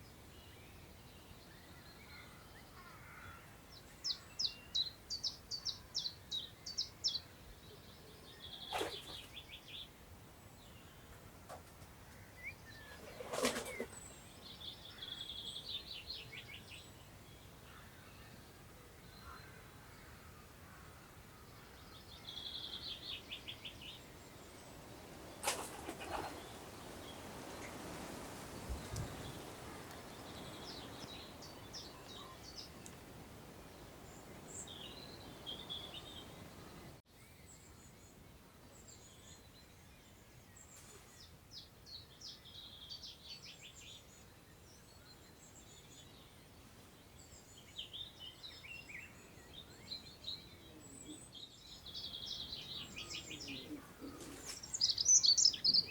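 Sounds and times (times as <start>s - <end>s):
songbirds singing: 0.0s - 55.9s
wind through grass: 0.0s - 55.9s.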